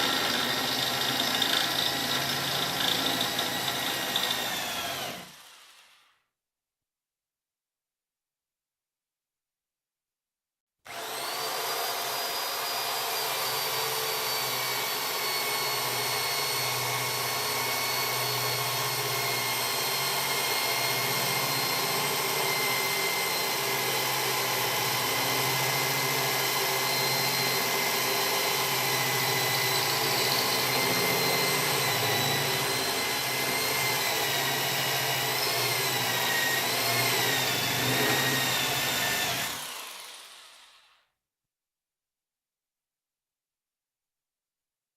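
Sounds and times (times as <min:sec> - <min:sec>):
electric drill motor whining: 0:00.0 - 0:06.1, 0:10.9 - 0:41.0.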